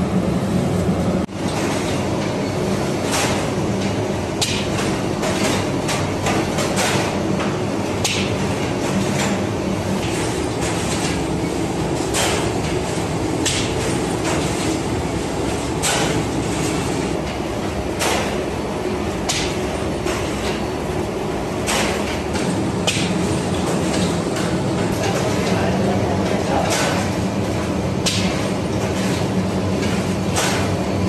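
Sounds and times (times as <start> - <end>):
oven machinery rumbling: 0.0 - 31.0.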